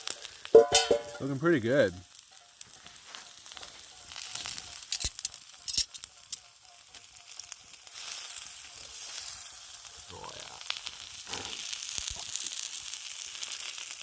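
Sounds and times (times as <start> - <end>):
meat sizzling on hot rock: 0.0 - 14.0.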